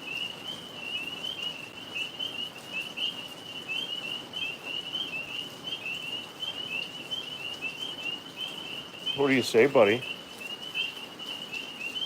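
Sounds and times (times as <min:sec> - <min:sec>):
tree frogs chirping: 0:00.0 - 0:12.0.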